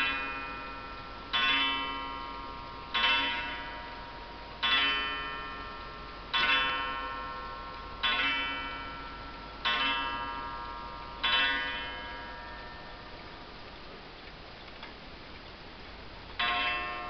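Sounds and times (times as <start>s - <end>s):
wall clock striking a gong: 0.0s - 13.5s, 16.4s - 17.0s.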